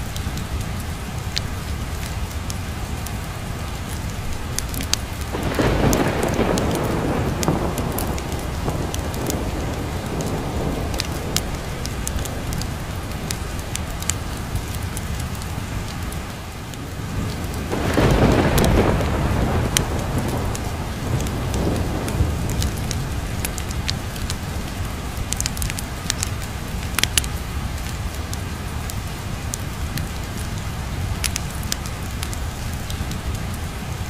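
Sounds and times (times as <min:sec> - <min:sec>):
steady rain: 0:00.0 - 0:34.0
sharp ticks and crackles: 0:00.1 - 0:33.5
thunder rumbling: 0:04.2 - 0:34.0.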